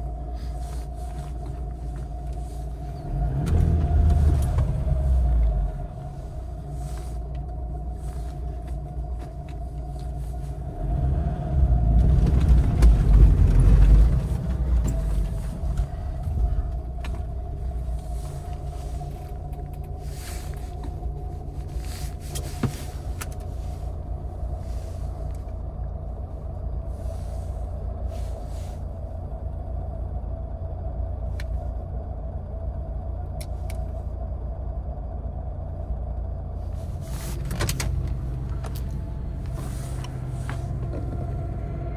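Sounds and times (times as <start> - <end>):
car engine rumble: 0.0 - 41.9
drivetrain whine: 0.0 - 41.9.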